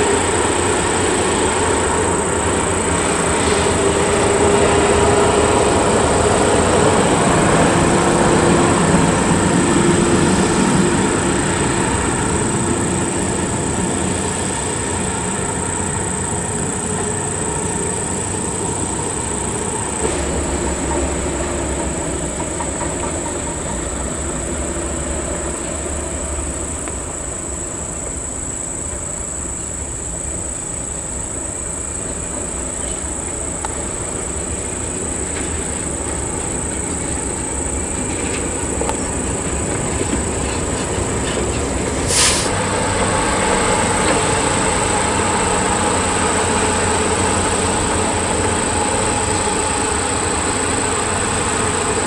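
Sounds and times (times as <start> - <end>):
dump truck engine and tyres: 0.0 - 52.0
truck deep engine rumble: 0.0 - 52.0.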